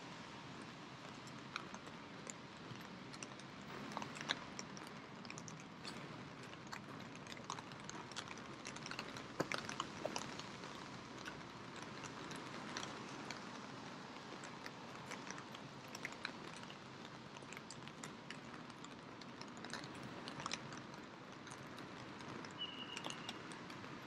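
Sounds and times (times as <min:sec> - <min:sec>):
raindrops ticking: 0:00.4 - 0:24.0.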